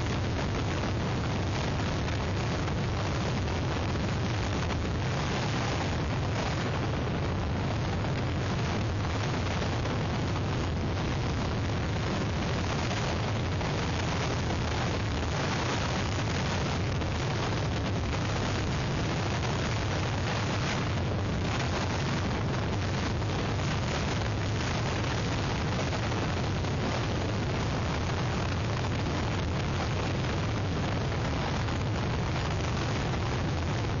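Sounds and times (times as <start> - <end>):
strong wind on microphone: 0.0 - 34.0.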